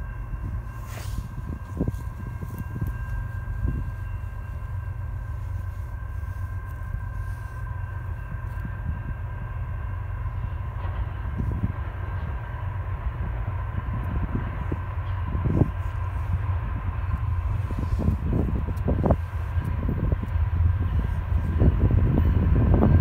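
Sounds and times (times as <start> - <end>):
freight train rumble: 0.0 - 23.0
high-pitched locomotive tones: 0.0 - 23.0.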